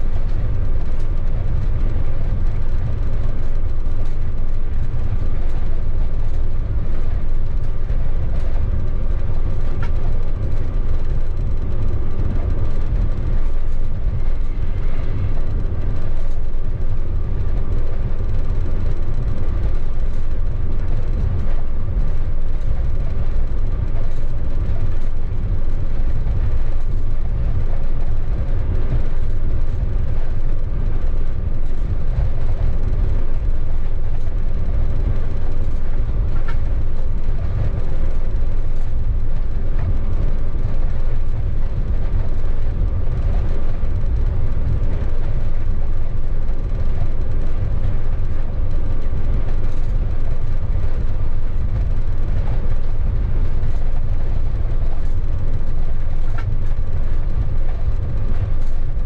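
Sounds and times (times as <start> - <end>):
locomotive low rumble: 0.0 - 59.0.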